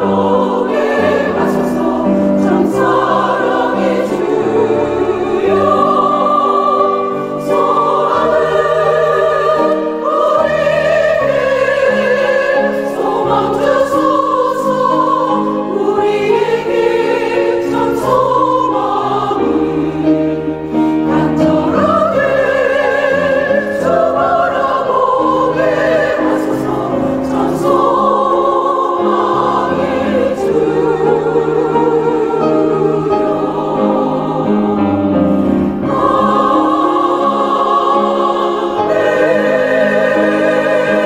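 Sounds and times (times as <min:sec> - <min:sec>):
church choir singing: 0:00.0 - 0:41.0.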